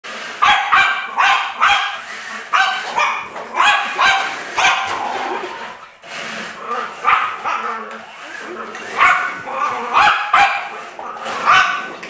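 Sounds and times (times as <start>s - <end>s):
puppy barking: 0.4s - 5.4s, 6.7s - 7.9s, 8.6s - 12.0s.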